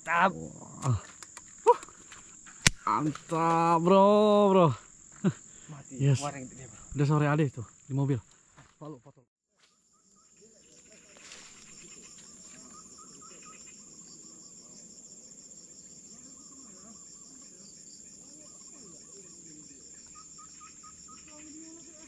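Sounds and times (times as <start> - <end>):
high-pitched insect trill: 0.0 - 8.4, 9.6 - 22.0.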